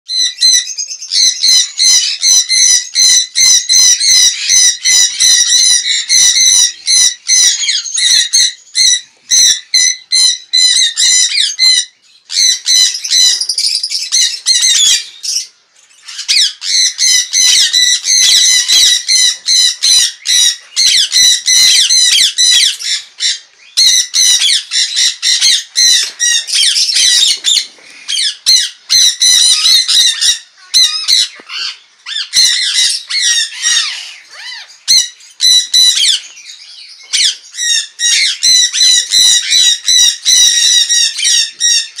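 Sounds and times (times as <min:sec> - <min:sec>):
flock of parrots calling: 0:00.1 - 0:42.0.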